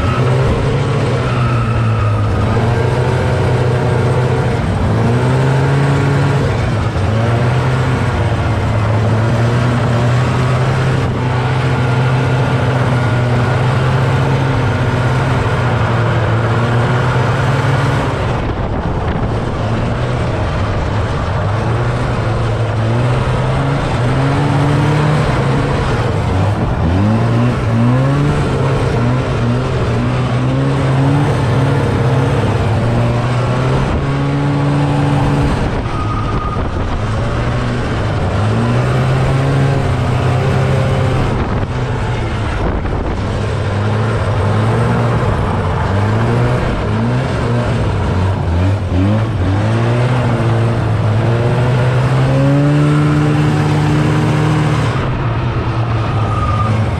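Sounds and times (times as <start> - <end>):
snowmobile engine revving: 0.0 - 56.9.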